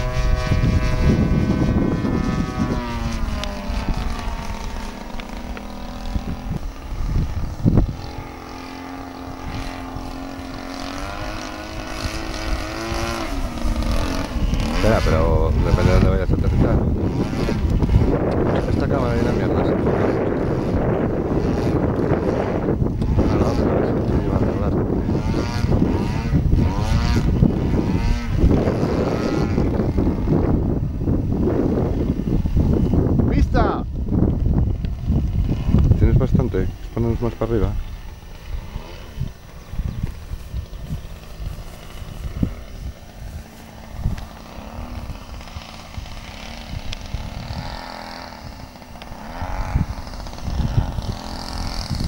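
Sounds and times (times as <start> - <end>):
low rumble on microphone: 0.0 - 52.0
model plane engine droning: 0.0 - 52.0.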